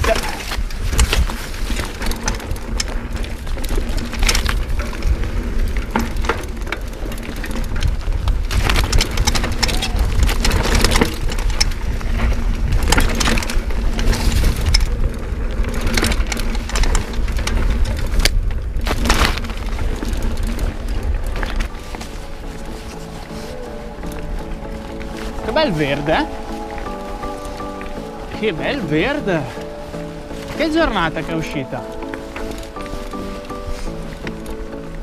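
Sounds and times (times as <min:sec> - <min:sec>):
bike knocking and rattling: 0:00.0 - 0:35.0
bike tyres crunching on gravel: 0:00.0 - 0:35.0
low rumble: 0:00.7 - 0:35.0.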